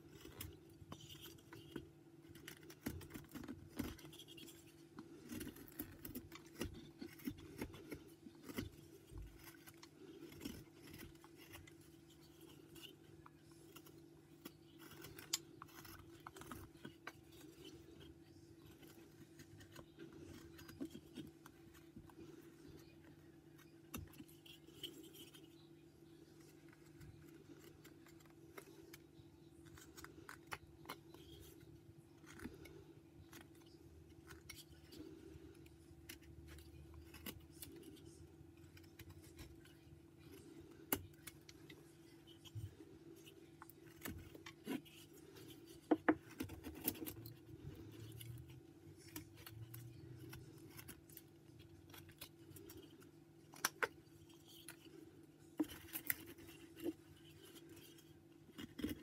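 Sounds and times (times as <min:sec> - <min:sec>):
knife carving wood: 0:00.0 - 0:59.0.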